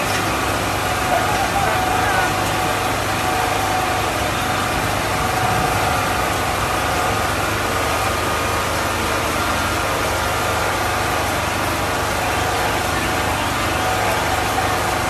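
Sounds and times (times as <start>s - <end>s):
car engines idling: 0.0s - 15.0s
rain hissing: 0.0s - 15.0s.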